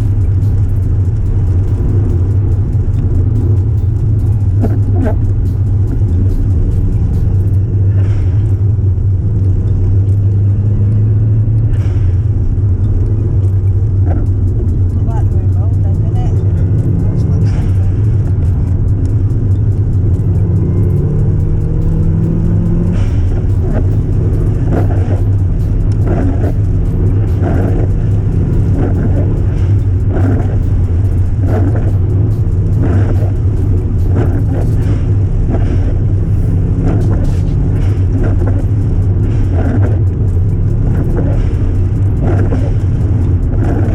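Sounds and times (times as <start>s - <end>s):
hissing swells: 0.0s - 9.2s, 11.6s - 43.9s
car engine drone: 0.0s - 43.9s.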